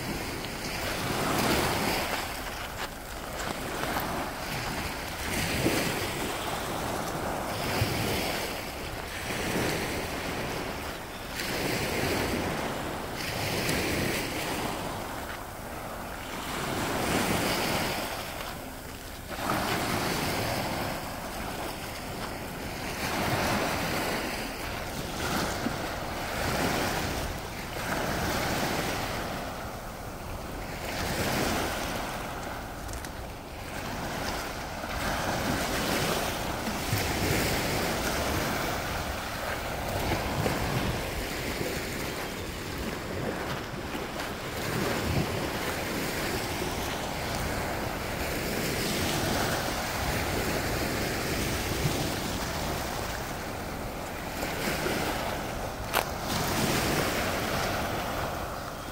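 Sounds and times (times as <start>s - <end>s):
small waves washing over pebbles: 0.0s - 58.9s.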